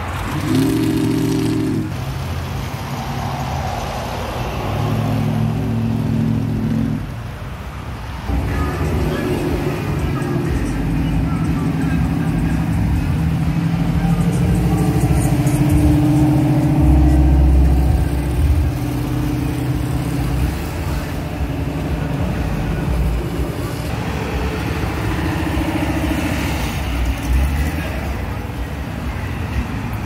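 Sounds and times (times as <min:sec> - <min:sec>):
cars and trucks driving slowly past: 0:00.0 - 0:30.0.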